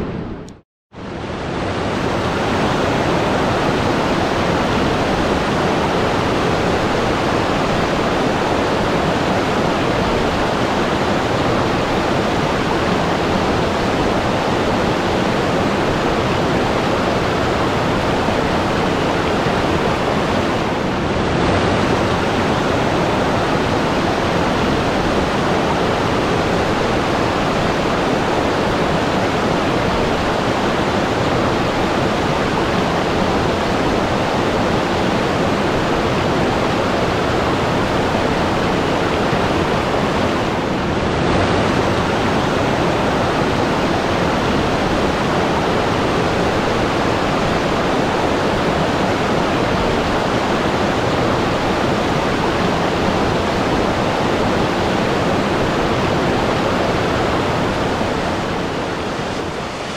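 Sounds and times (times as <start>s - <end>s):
rush of flowing water: 0.0s - 59.9s.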